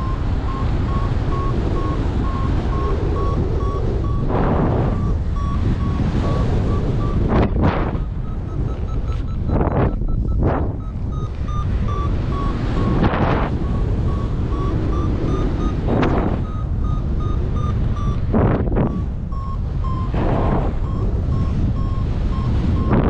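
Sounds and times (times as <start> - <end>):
variometer beeping: 0.0 - 23.0
wind buffeting microphone: 0.0 - 23.0.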